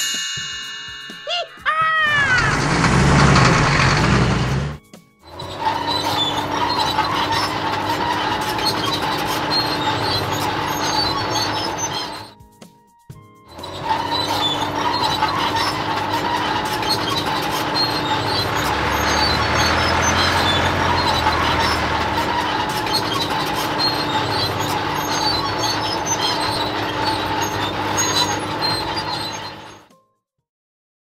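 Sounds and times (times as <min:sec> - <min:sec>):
heavy machinery running: 0:02.1 - 0:12.3, 0:13.5 - 0:29.8.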